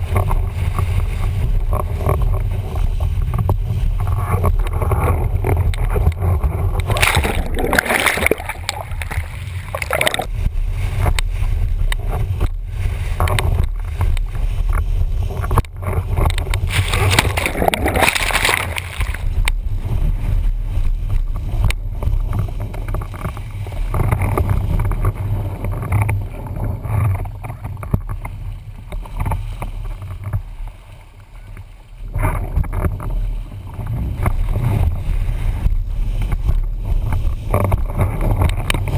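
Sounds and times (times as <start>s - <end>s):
water rushing and hissing: 0.0s - 38.9s
wind buffeting microphone: 0.0s - 38.9s.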